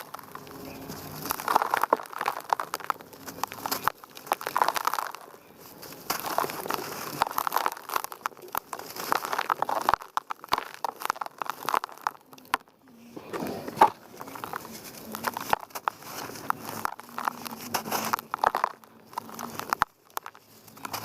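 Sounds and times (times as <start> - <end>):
dry mud crumbling and crunching: 0.0 - 21.0.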